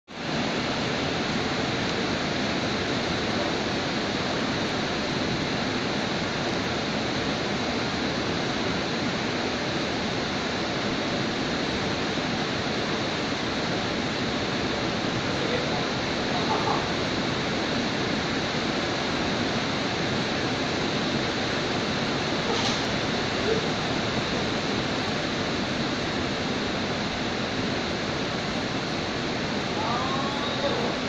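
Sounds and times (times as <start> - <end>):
heavy rain falling: 0.1 - 31.0.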